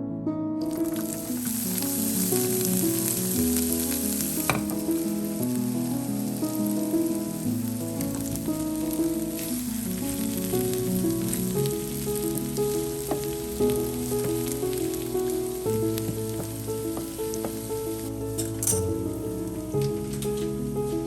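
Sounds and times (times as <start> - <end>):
slow melody of held notes: 0.0 - 21.0
crackling hiss: 0.6 - 21.0.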